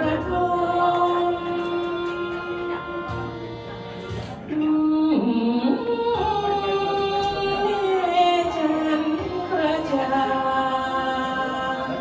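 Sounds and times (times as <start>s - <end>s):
woman singing into a microphone: 0.0s - 3.5s, 4.5s - 12.0s.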